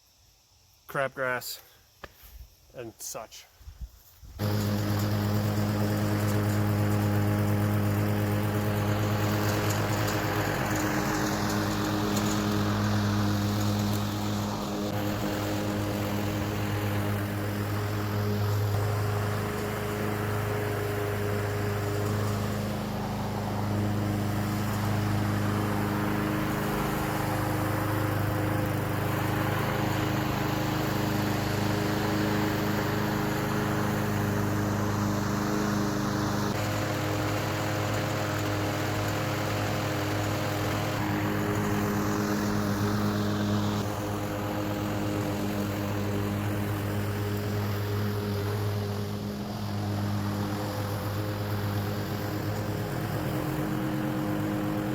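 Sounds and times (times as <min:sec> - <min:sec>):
lawn mower engine running: 0:04.3 - 0:54.9.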